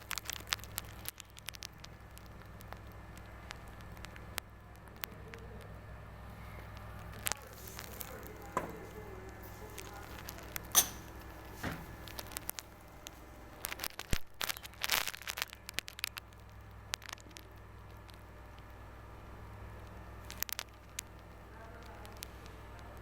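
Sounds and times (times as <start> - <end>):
crinkling handling noise: 0.0 - 23.0
steady low hum: 0.0 - 23.0.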